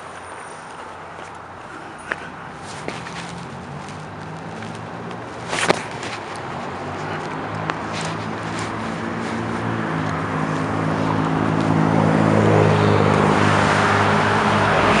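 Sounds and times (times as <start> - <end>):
diesel engine passing by: 1.5 - 15.0.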